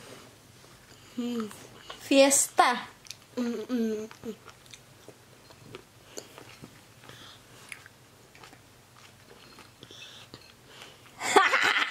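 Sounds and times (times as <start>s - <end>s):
children chewing: 0.7s - 2.1s, 2.9s - 11.2s.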